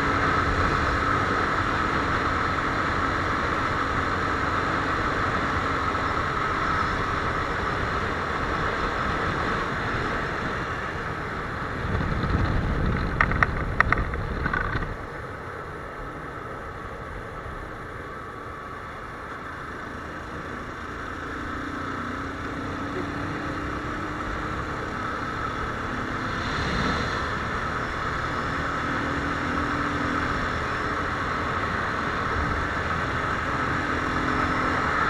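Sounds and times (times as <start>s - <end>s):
motorcycle engine running: 0.0s - 35.0s
road noise: 0.0s - 35.0s.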